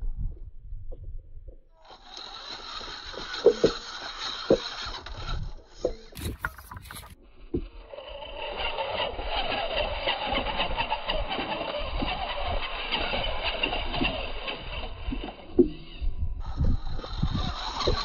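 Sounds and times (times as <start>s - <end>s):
rc car motor whining: 1.8s - 18.0s.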